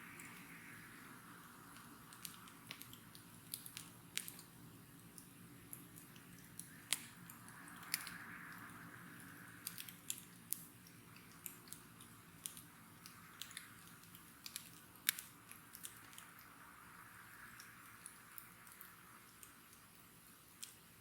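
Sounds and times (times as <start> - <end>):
soft hiss of burning: 0.0 - 21.0
wood fire crackling: 0.0 - 21.0.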